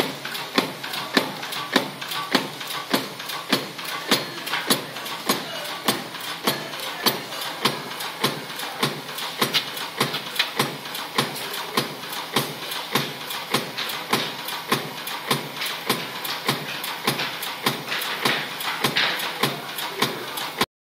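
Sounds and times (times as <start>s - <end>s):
machine clacking: 0.0s - 20.7s
mechanical hum: 0.0s - 20.7s.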